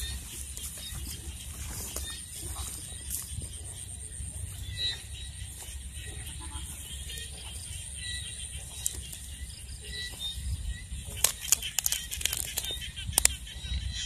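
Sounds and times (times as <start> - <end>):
footsteps through dry grass: 0.0 - 13.9
night insects chirring: 0.0 - 14.0.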